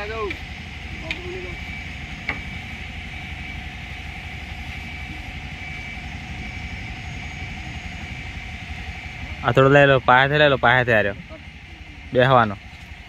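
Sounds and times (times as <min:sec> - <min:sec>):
auto-rickshaw engine idling: 0:00.0 - 0:13.0.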